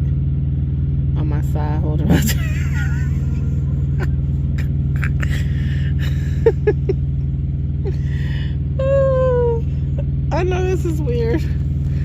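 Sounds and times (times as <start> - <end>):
truck diesel engine idling: 0.0 - 12.0.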